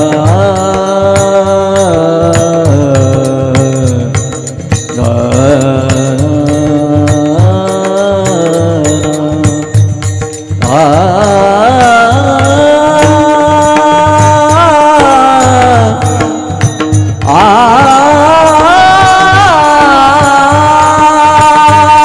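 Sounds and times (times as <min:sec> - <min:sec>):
high voice singing long notes: 0:00.0 - 0:09.8, 0:10.6 - 0:22.0
steady drum beat: 0:00.0 - 0:22.0.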